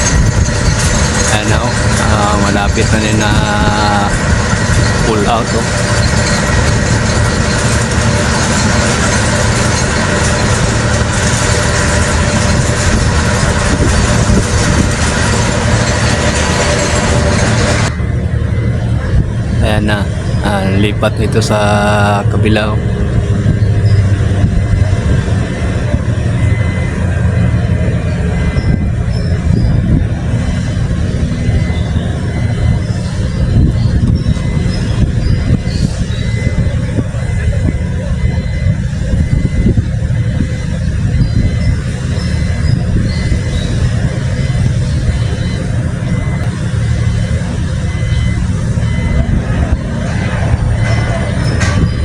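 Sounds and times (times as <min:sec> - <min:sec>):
heavy machinery rumbling: 0:00.0 - 0:52.0
passing road traffic: 0:00.0 - 0:52.0.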